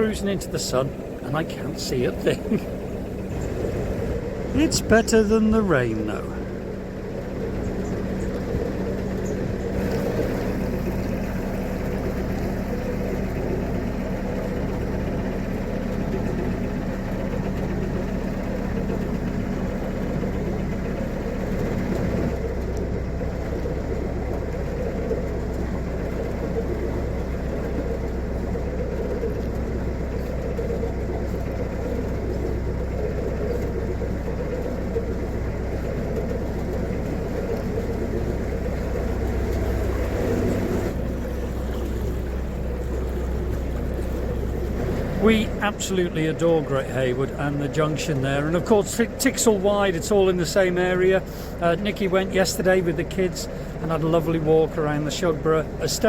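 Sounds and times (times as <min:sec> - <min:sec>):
boat diesel engine running: 0:00.0 - 0:56.0.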